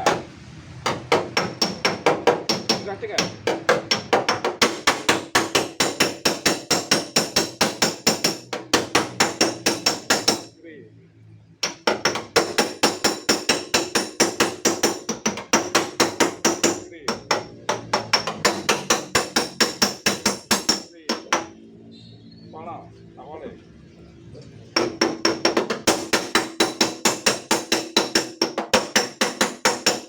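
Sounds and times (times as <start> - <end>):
hammer tapping on metal panel: 0.0 - 10.5, 11.6 - 21.6, 24.8 - 30.0.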